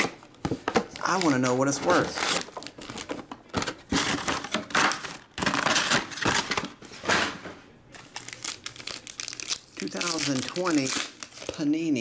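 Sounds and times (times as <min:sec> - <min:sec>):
foil packs crinkling: 0:00.0 - 0:06.8, 0:08.0 - 0:12.0.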